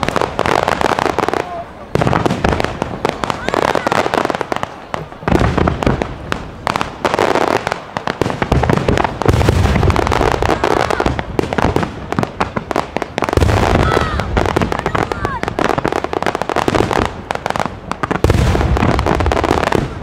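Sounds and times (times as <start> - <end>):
firework shells booming: 0.0 - 20.0
fireworks crackling: 0.0 - 20.0.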